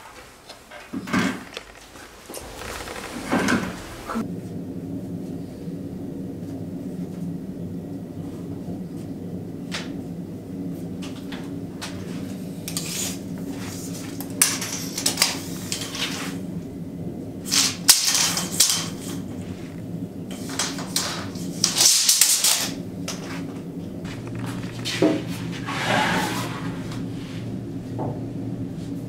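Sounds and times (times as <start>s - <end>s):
steady low hum: 0.2s - 29.0s.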